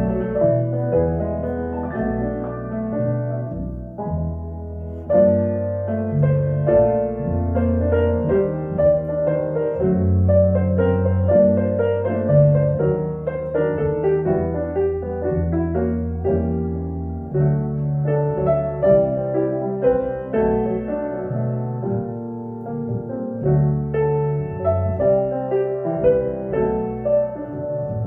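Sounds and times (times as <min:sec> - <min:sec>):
double bass: 0:00.0 - 0:28.0
grand piano: 0:00.0 - 0:28.0.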